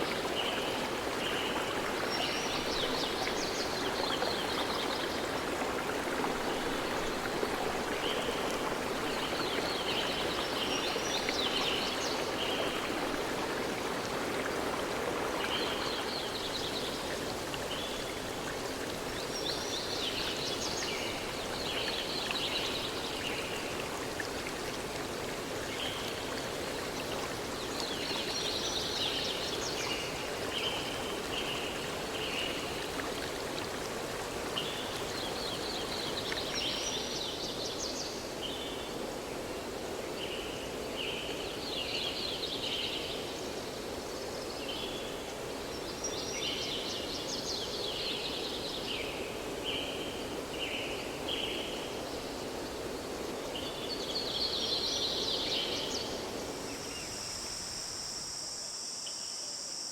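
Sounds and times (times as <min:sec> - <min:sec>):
stream water flowing: 0:00.0 - 0:40.1, 0:40.7 - 0:58.4.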